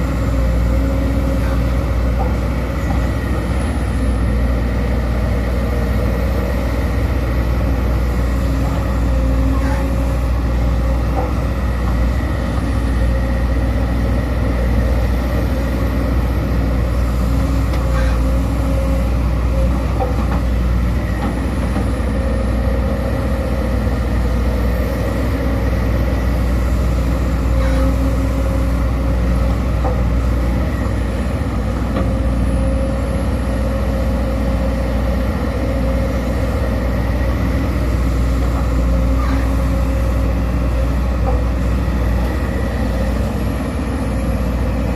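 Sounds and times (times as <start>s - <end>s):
excavator diesel engine droning: 0.0s - 44.9s.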